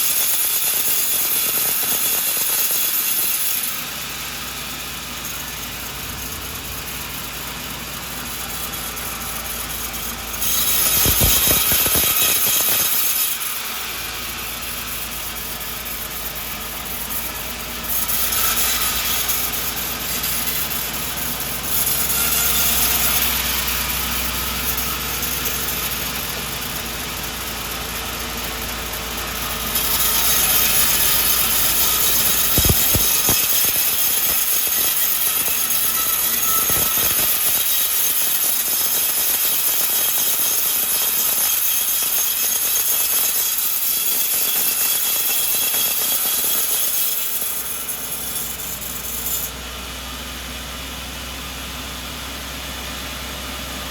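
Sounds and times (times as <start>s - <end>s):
saw blade cutting wood: 0.0s - 49.6s
sawmill machine humming: 0.0s - 53.9s.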